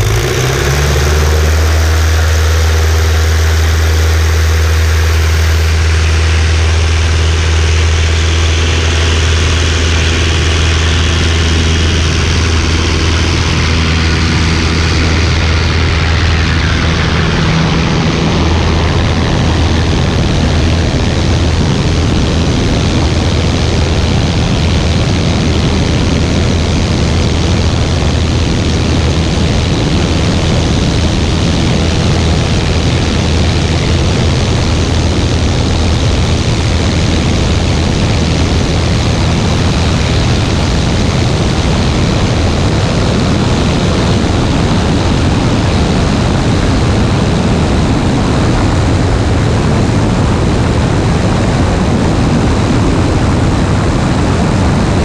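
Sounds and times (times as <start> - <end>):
airplane engine and propeller drone: 0.0 - 55.0
rushing air: 0.0 - 55.0.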